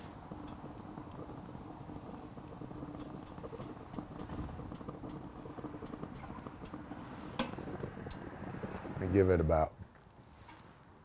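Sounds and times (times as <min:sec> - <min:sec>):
meat crackling on grill: 0:00.0 - 0:10.8
gas grill burning: 0:00.0 - 0:11.0.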